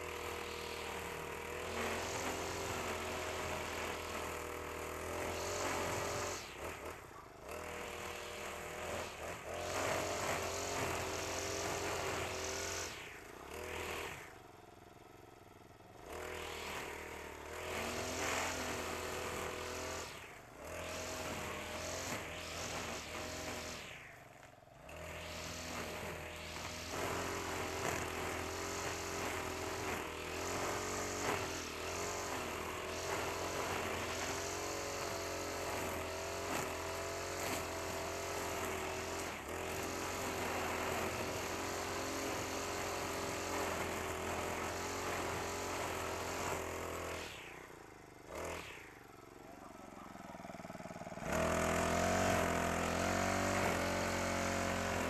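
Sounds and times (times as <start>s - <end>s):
trimmer head sweeping through grass: 0.0s - 14.3s, 16.1s - 48.9s, 49.8s - 55.0s
brush cutter engine running: 0.0s - 55.0s.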